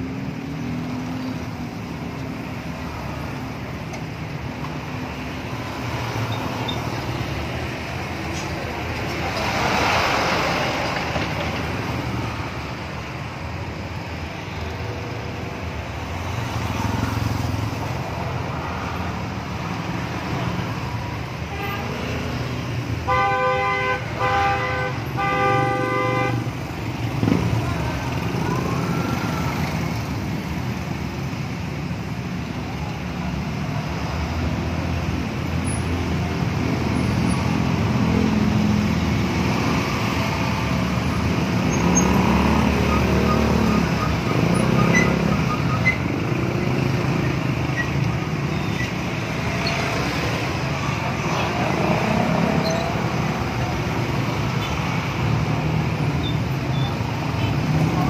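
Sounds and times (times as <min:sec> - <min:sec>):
congested traffic rumble: 0:00.0 - 0:58.0.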